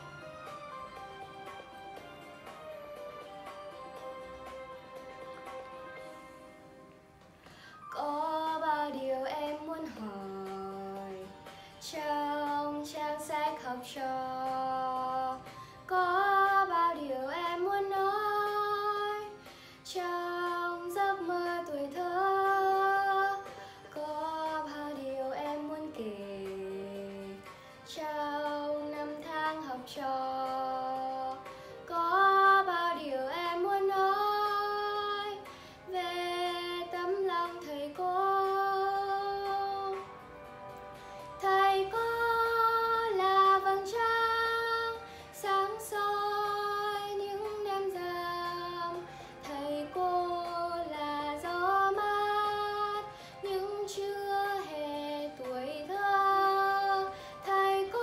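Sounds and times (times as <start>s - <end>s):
faint backing track: 0.0s - 58.0s
girl singing with vibrato: 7.9s - 40.1s, 41.3s - 58.0s.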